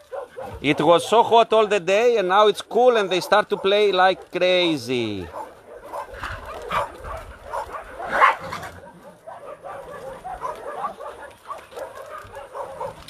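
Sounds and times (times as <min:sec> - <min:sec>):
dogs barking and yapping: 0:00.0 - 0:13.0.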